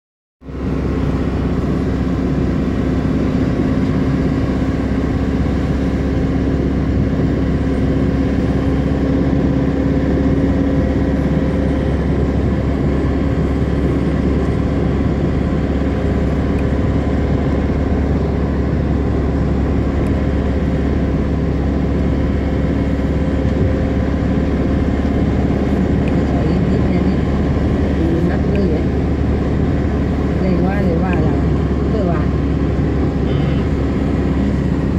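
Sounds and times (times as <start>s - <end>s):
car road and engine noise: 0.4s - 34.9s.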